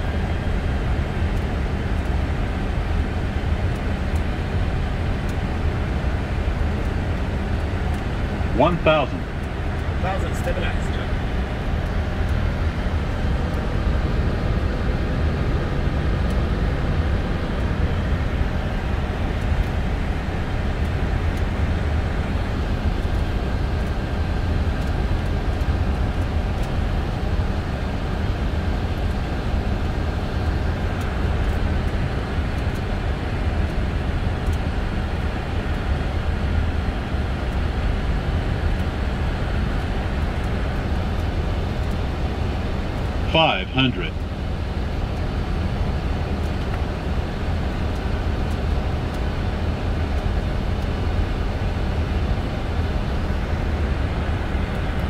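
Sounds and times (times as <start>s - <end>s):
airflow and jet engine noise: 0.0s - 55.0s.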